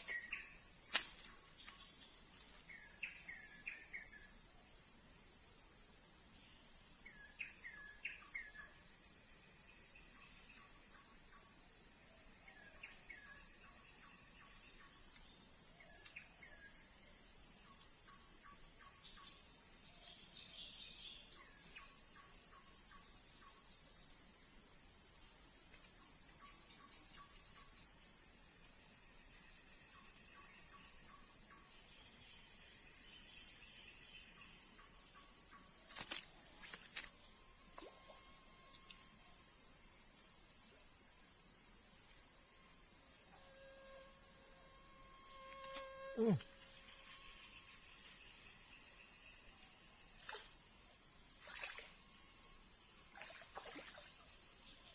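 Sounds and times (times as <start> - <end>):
insect chorus: 0.0 - 54.9.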